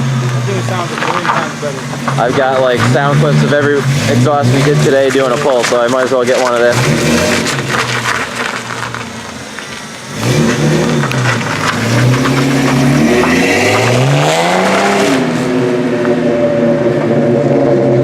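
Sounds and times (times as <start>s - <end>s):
car engine revving under load: 0.0s - 18.0s.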